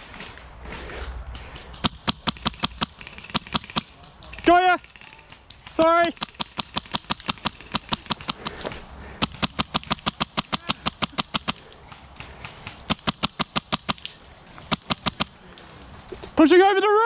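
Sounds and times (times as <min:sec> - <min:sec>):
airsoft rifles firing in bursts: 0:01.7 - 0:15.5.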